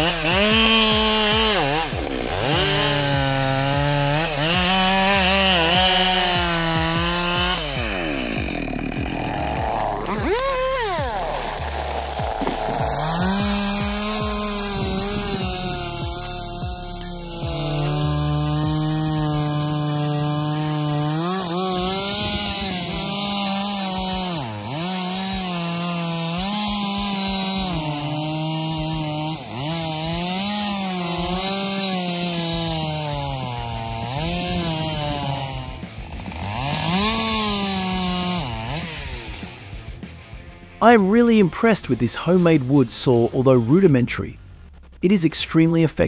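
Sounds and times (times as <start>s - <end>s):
chainsaw cutting a log: 0.0s - 44.1s.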